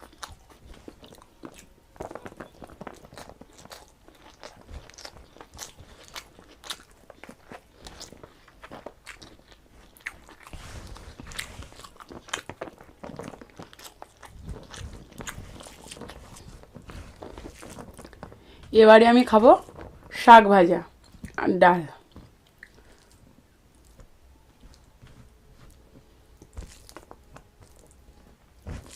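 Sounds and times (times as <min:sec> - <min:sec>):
chewing and crunching food: 0:00.0 - 0:28.9.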